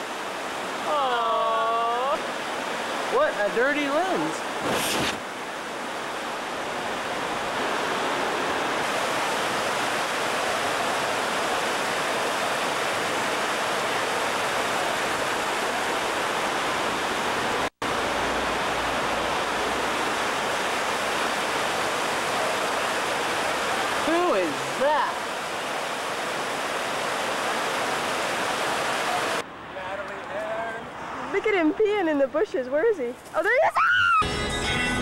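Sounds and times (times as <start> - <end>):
water rushing over rocks: 0.0 - 29.4.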